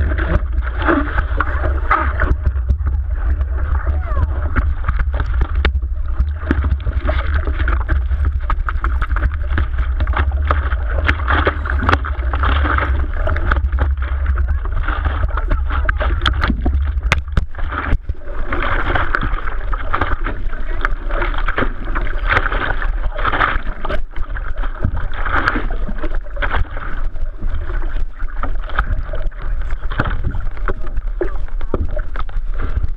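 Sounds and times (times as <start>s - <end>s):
water rushing and splashing: 0.0s - 32.9s
wind rumbling on microphone: 0.0s - 32.9s.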